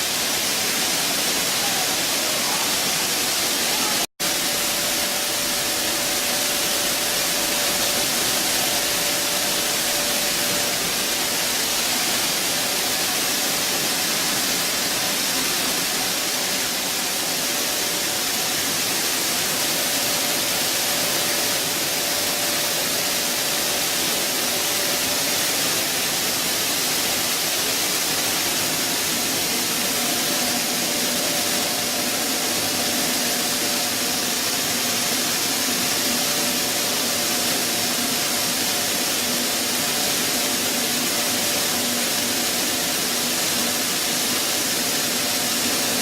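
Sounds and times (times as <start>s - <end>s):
mill hiss: 0.0s - 46.0s.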